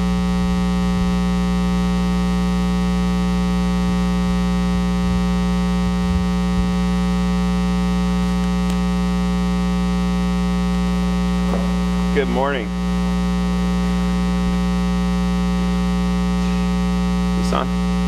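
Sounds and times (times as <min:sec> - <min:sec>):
loud electrical hum: 0:00.0 - 0:18.0.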